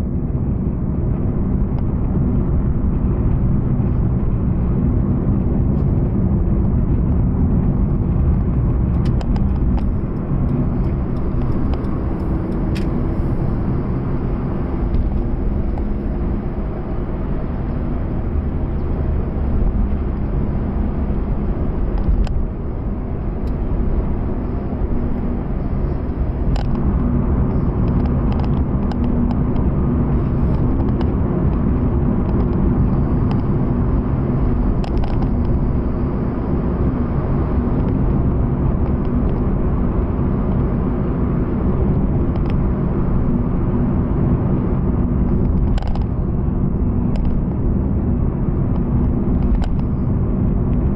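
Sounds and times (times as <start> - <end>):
car engine rumble: 0.0 - 50.9
tyres on road: 0.0 - 50.9.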